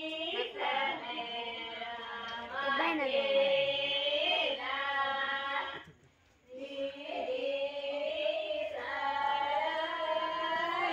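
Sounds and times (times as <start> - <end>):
women singing unaccompanied: 0.0 - 10.9.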